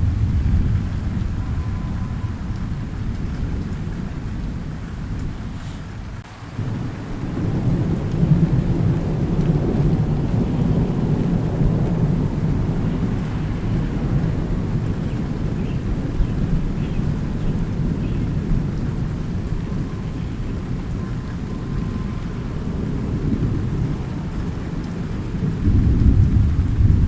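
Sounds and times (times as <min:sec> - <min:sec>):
rolling thunder: 0:00.0 - 0:27.0
steady rain: 0:00.0 - 0:27.0.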